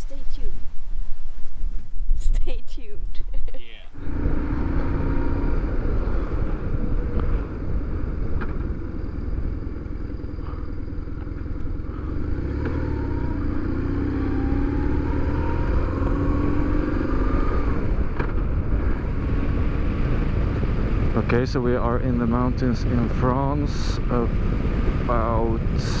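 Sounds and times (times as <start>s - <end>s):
road and wind noise: 0.0s - 26.0s
motorcycle engine running: 3.9s - 26.0s.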